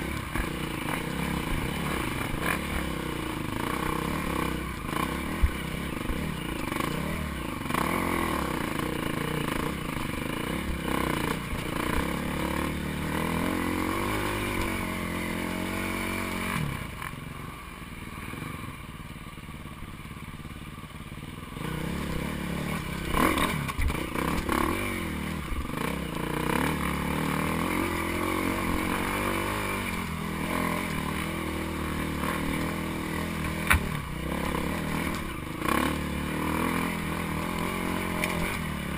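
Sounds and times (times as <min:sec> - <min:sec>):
dirt bike engine revving: 0:00.0 - 0:17.2, 0:21.5 - 0:38.9.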